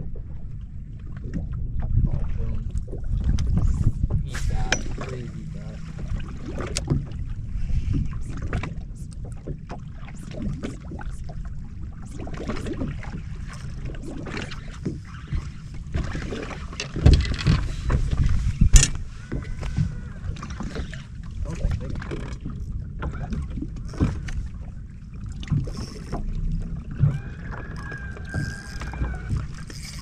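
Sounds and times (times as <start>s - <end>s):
small waves slapping boat hull: 0.0s - 30.0s
wind rumbling on microphone: 0.0s - 30.0s.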